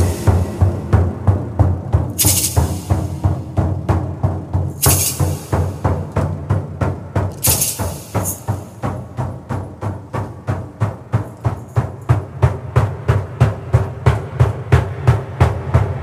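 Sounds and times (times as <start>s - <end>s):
drum beaten steadily: 0.0s - 16.0s.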